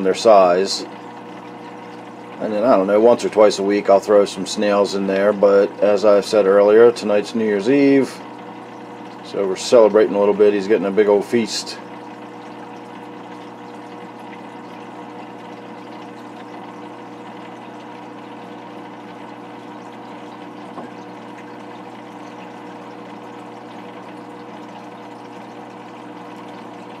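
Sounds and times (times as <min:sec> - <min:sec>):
aquarium filter motor hum: 0:00.0 - 0:27.0.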